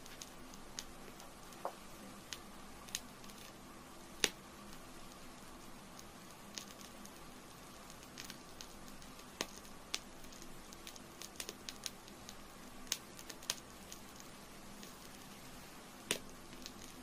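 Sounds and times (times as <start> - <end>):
candle wick crackling and popping: 0.0 - 17.0
faint steady hum: 0.0 - 17.0.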